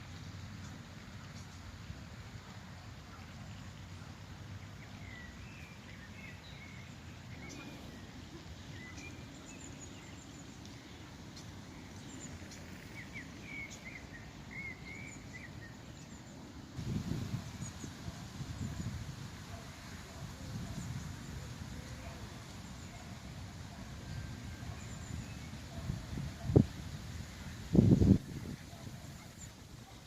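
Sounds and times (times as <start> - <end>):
small birds chirping: 3.5 - 30.0.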